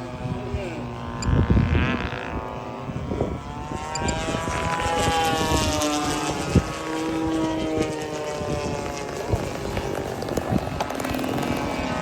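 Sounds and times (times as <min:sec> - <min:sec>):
model airplane engines droning: 0:00.0 - 0:12.0.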